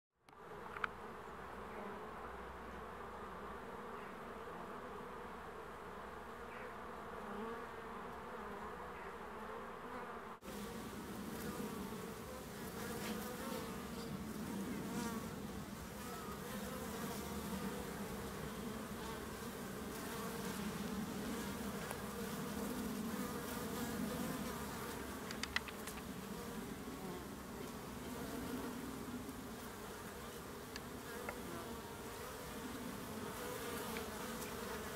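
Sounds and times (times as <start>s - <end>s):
honeybees buzzing: 0.4s - 34.9s.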